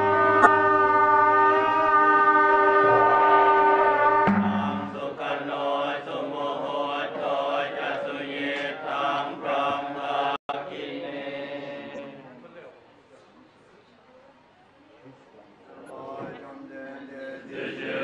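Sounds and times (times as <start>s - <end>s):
monks chanting in unison: 0.0s - 12.2s, 15.7s - 18.0s.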